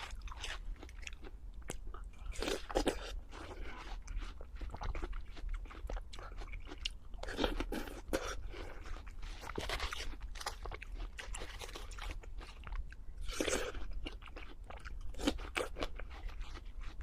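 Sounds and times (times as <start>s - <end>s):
person chewing crisp food: 0.0s - 17.0s.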